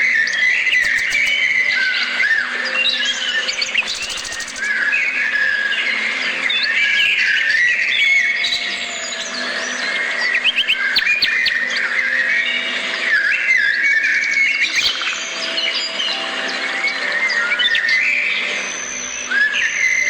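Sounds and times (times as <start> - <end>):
songbirds chirping and whistling: 0.0 - 20.0.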